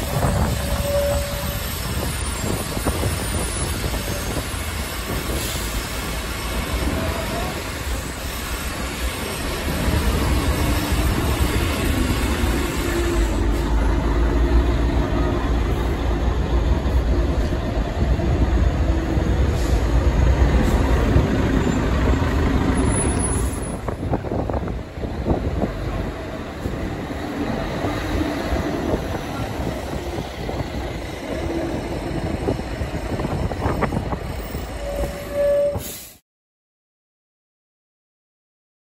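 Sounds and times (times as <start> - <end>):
bus engine rumbling: 0.0 - 36.2.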